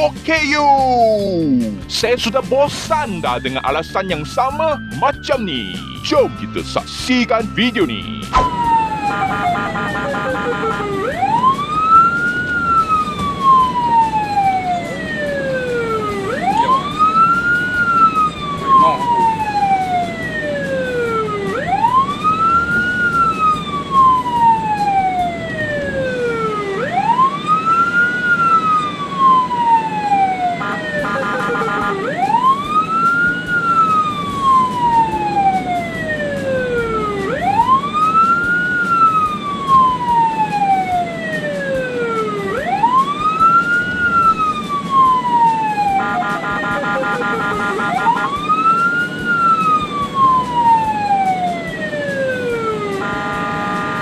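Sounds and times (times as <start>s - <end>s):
ambulance siren wailing: 0.0s - 54.0s
traffic noise: 0.0s - 54.0s.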